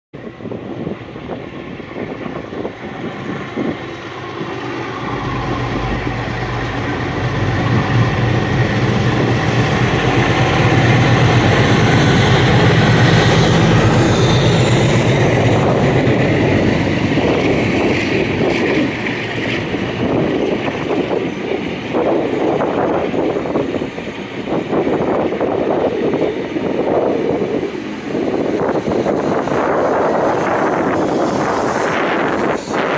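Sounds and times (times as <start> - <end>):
diesel locomotive engine drone: 0.1 - 32.9.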